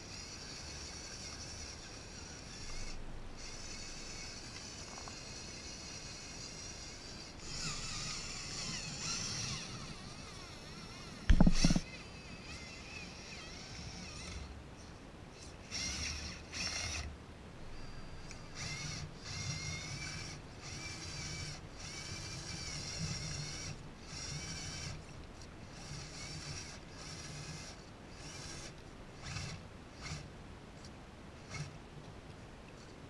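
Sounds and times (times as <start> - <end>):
electric motor whining: 0.0 - 17.1, 17.7 - 30.3.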